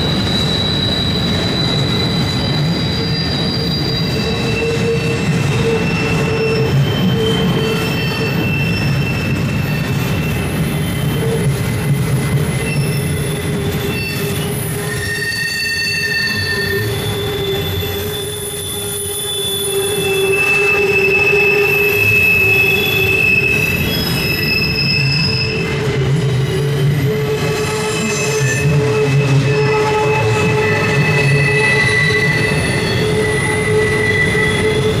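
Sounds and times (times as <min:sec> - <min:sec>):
freight train rumble: 0:00.0 - 0:35.0
wheels squealing: 0:00.0 - 0:35.0.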